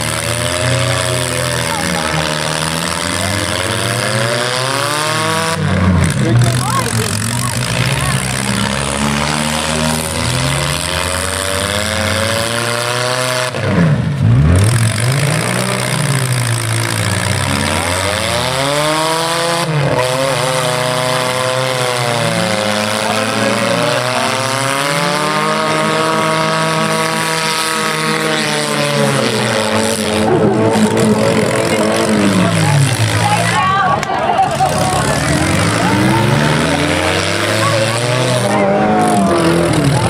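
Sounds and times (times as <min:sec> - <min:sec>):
car engines revving hard: 0:00.0 - 0:40.0.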